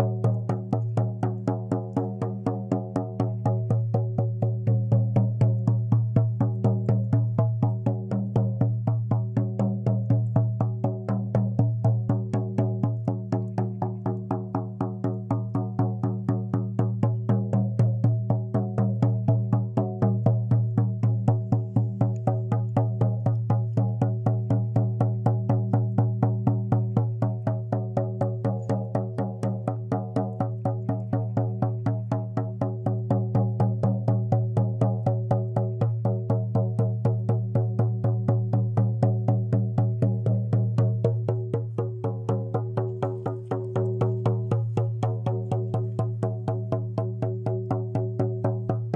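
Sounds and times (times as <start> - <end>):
frame drum beaten rapidly: 0.0 - 48.9.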